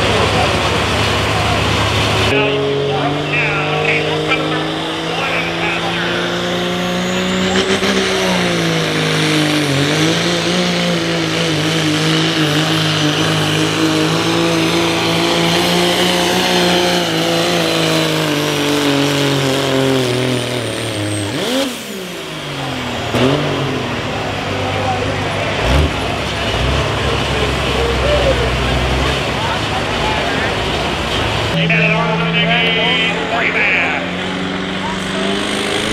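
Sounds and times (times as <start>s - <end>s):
diesel engine at full throttle: 0.0s - 35.9s.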